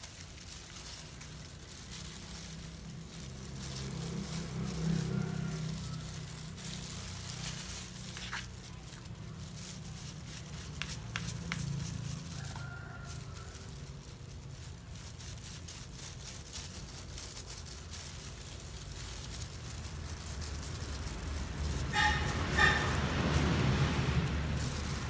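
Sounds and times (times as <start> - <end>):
plastic gloves crinkling: 0.0 - 25.0.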